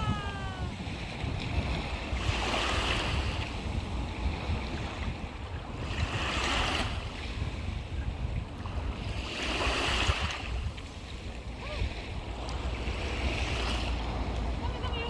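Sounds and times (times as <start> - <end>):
sea waves washing onto shore: 0.0 - 15.0
wind rumbling on microphone: 0.0 - 15.0.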